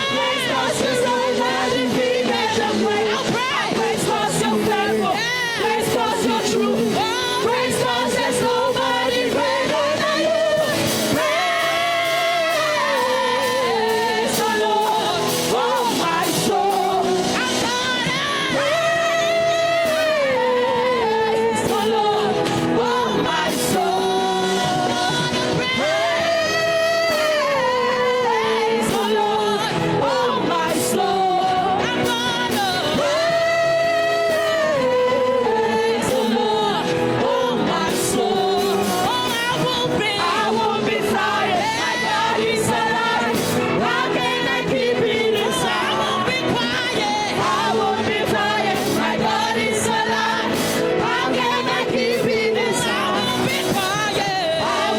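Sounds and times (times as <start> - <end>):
band accompaniment: 0.0 - 54.9
lead voice singing gospel: 0.0 - 54.9.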